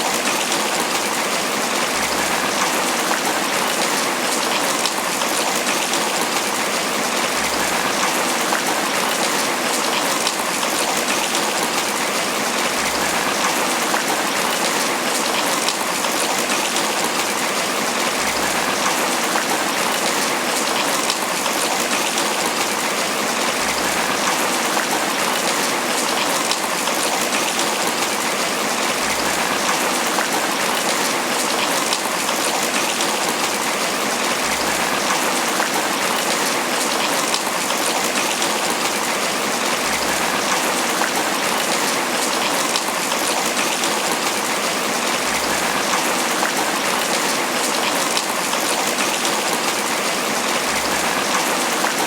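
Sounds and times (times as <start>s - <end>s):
rain on leaves: 0.0s - 52.0s.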